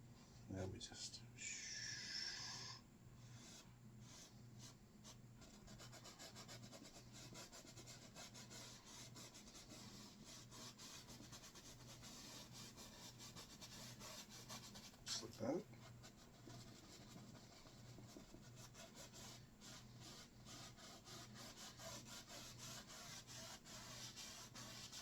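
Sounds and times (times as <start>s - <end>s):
paintbrush scratching on canvas: 3.2s - 25.0s.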